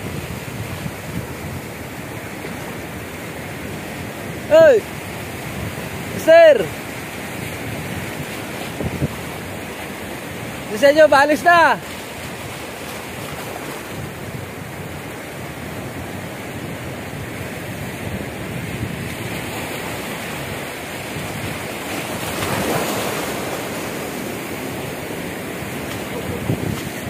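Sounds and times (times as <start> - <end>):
surf washing over shoreline: 0.0 - 27.0.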